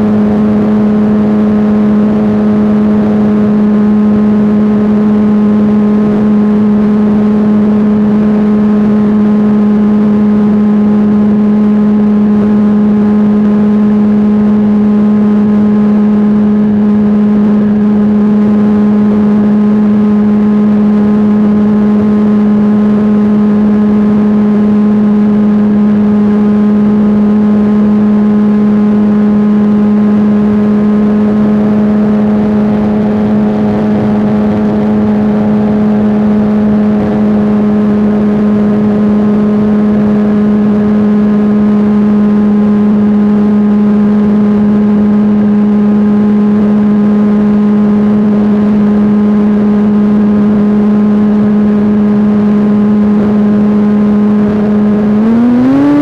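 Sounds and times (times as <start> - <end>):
model airplane engine: 0.0 - 56.0.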